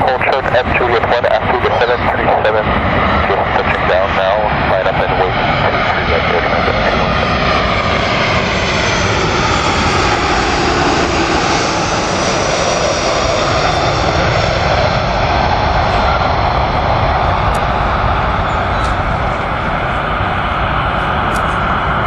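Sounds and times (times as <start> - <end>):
jet airliner engines roaring: 0.0 - 22.0.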